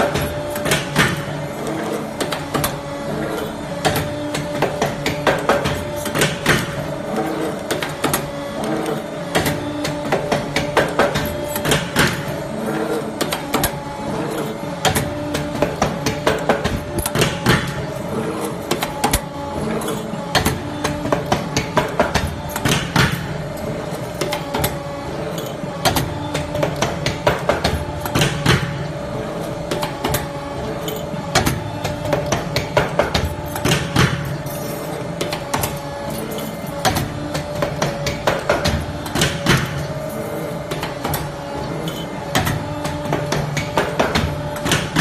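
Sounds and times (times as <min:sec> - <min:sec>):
steady machine hum: 0:00.0 - 0:45.0.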